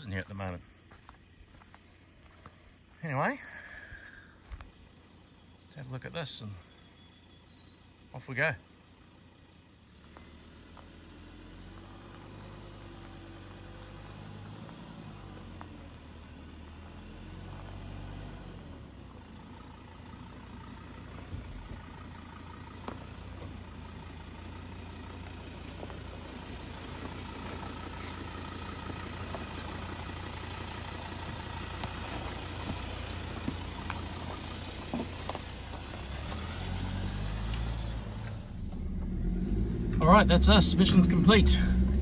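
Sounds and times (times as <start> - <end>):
low engine and drivetrain rumble: 0.0 - 42.0.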